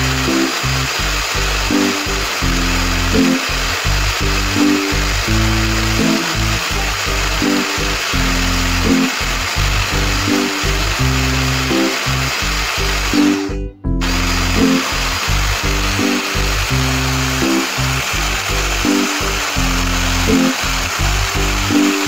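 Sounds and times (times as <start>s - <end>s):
background music: 0.0s - 22.0s
hand blender motor whine: 0.0s - 22.0s.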